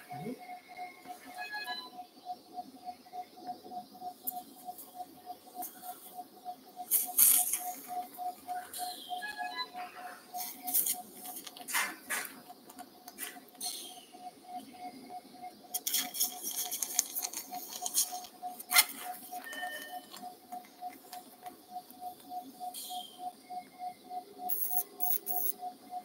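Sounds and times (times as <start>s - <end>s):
monitor beeping: 0.0s - 26.0s.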